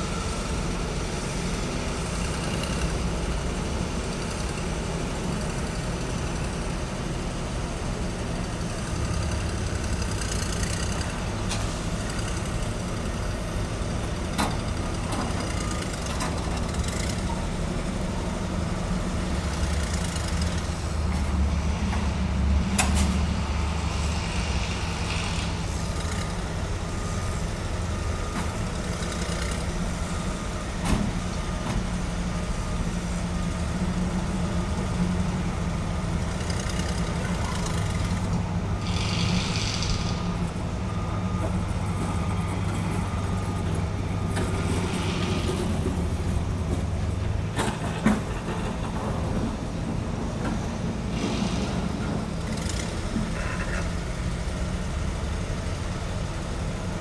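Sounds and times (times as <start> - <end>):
diesel truck engines rumbling: 0.0 - 57.0.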